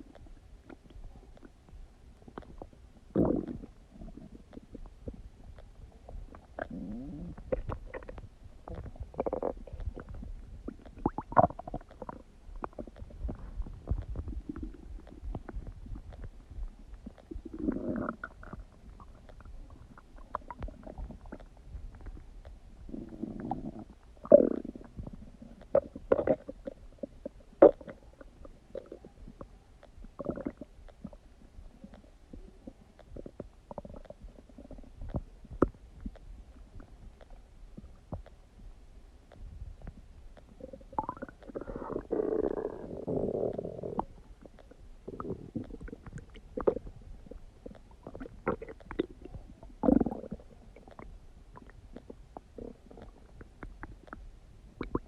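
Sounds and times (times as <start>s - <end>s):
stomach gurgling and rumbling: 0.0s - 55.0s.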